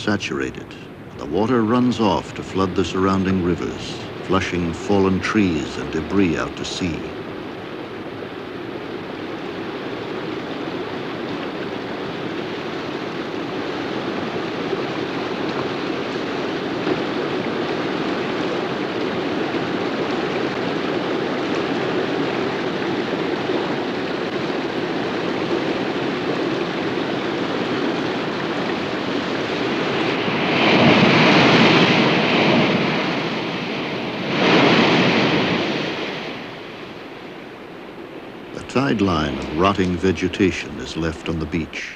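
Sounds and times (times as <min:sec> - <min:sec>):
rushing water: 0:00.0 - 0:41.9
surf waves breaking: 0:00.0 - 0:41.9.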